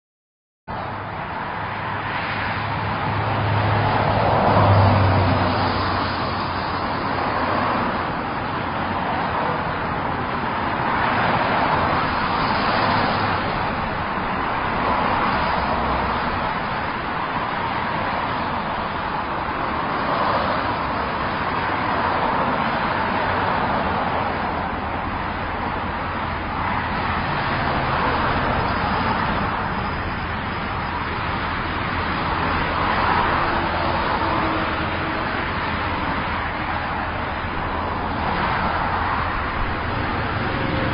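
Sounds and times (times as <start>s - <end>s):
highway traffic passing: 0.7s - 40.9s.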